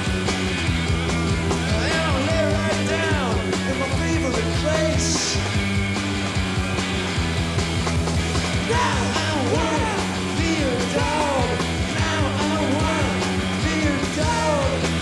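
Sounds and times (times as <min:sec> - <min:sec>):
bass and drum beat: 0:00.0 - 0:15.0
punk rock band playing: 0:00.0 - 0:15.0.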